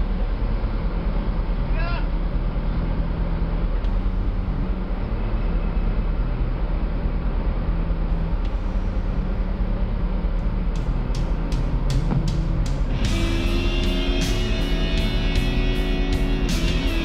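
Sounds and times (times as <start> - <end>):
boat diesel engine droning: 0.0 - 17.0.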